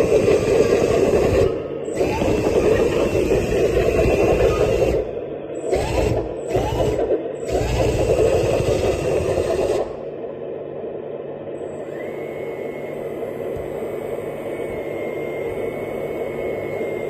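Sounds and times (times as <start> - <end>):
small electric motor whirring: 0.0 - 10.0, 11.6 - 17.0.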